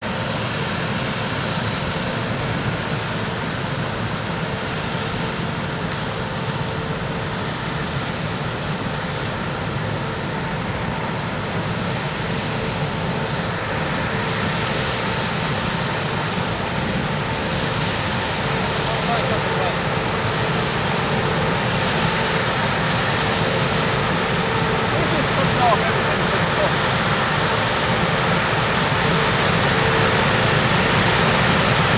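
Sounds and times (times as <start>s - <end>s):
combine harvester running: 0.0s - 31.9s
faint constant whine: 0.1s - 31.9s.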